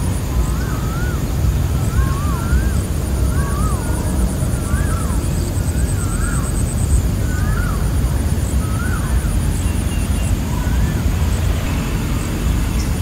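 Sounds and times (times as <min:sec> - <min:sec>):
pulsing insect trill: 0:00.0 - 0:13.0.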